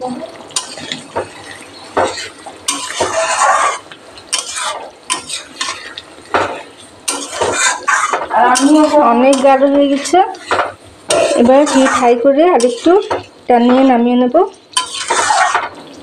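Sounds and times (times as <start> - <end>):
spatula clinking on pan: 0.6 - 13.9, 14.8 - 15.8
metal spatula scraping pan: 0.6 - 14.0, 14.7 - 15.8.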